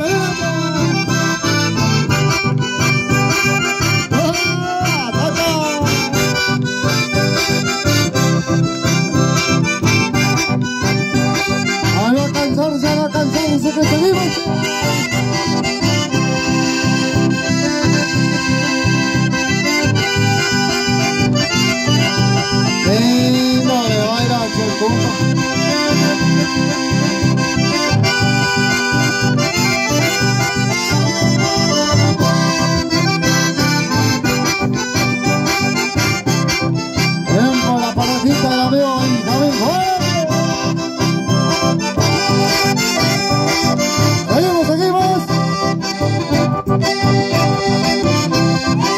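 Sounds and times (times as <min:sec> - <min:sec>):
button accordions playing: 0:00.0 - 0:48.9.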